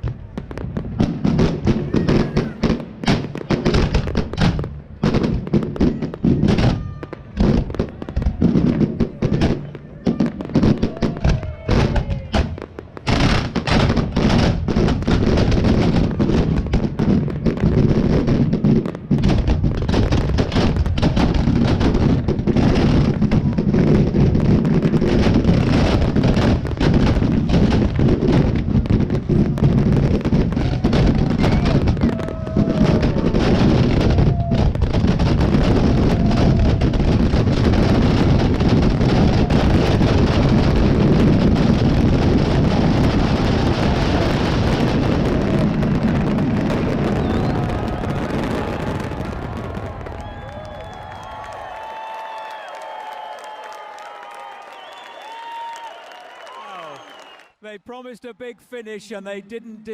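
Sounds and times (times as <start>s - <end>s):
fireworks bangs and crackles: 0.0s - 59.9s
fireworks barrage: 0.0s - 59.9s.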